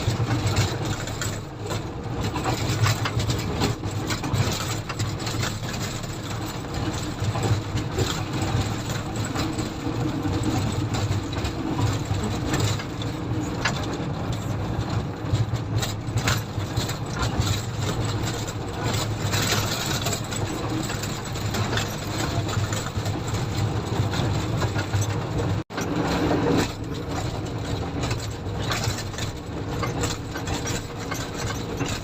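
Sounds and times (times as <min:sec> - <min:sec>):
motor grader diesel engine running: 0:00.0 - 0:32.0.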